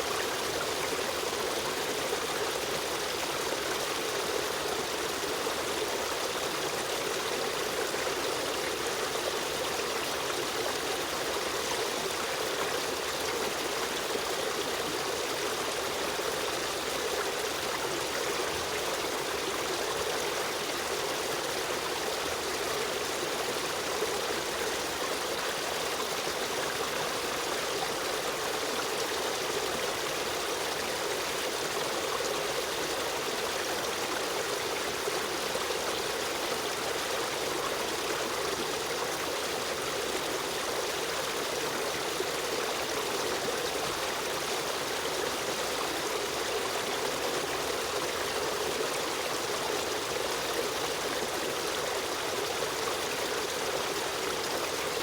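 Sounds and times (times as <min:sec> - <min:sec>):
river stream over rocks: 0:00.0 - 0:55.0.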